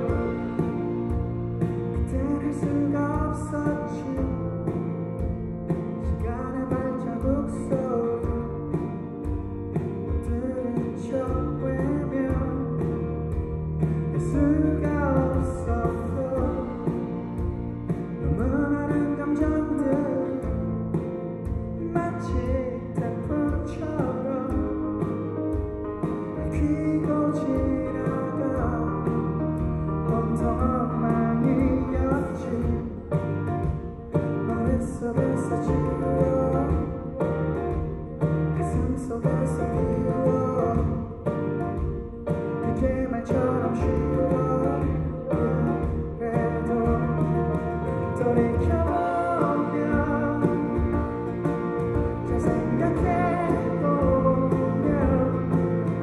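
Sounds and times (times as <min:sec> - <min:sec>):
acoustic guitar: 0:00.0 - 0:56.0
person singing: 0:01.8 - 0:05.2, 0:05.8 - 0:09.1, 0:09.9 - 0:13.1, 0:13.8 - 0:56.0.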